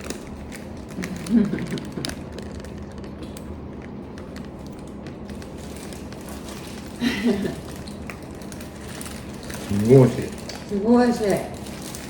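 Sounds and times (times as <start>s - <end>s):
low room noise: 0.0s - 12.0s.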